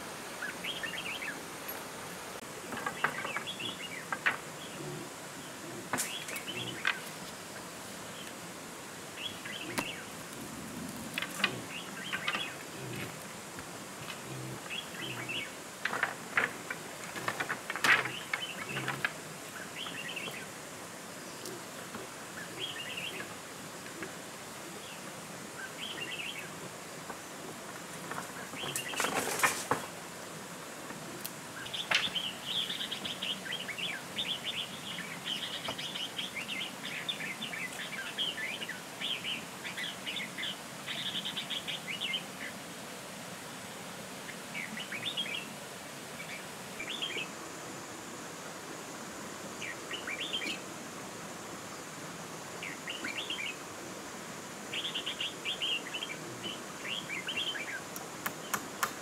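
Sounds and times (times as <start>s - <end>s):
birds chirping: 0.0s - 30.0s, 30.9s - 42.7s, 44.2s - 48.2s, 49.4s - 53.6s, 54.5s - 59.0s.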